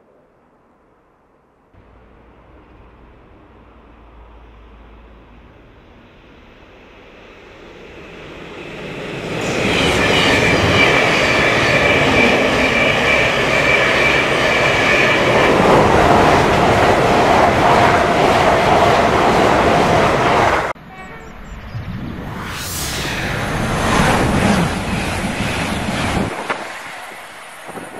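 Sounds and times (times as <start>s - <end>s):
second train passing: 0.0s - 27.9s
train passing at speed: 0.0s - 27.9s.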